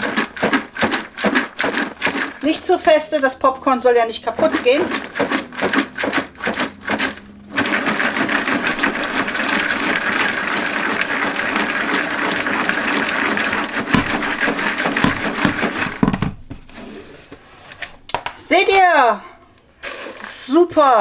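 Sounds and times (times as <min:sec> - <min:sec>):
popcorn rattling in plastic bowl: 0:00.0 - 0:16.4, 0:19.8 - 0:21.0.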